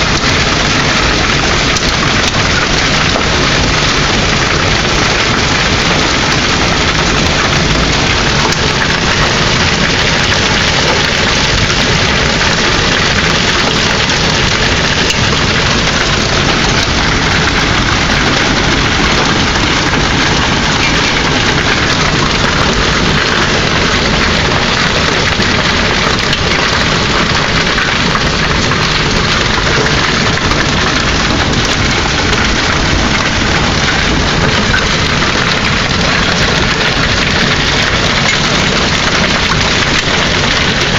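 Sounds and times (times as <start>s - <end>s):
hailstones clattering: 0.0s - 40.9s.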